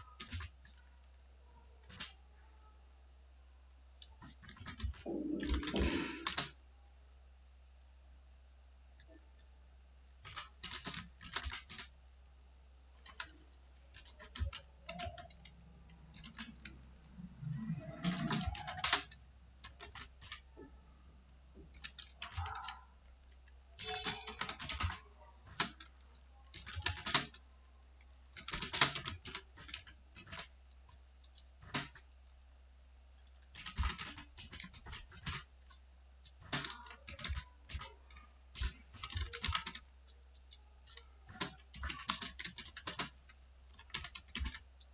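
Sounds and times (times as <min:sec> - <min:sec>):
typing on computer keyboard: 0:00.0 - 0:01.2, 0:01.8 - 0:02.2, 0:04.0 - 0:06.6, 0:10.2 - 0:12.0, 0:13.0 - 0:20.8, 0:21.6 - 0:32.4, 0:33.2 - 0:44.9.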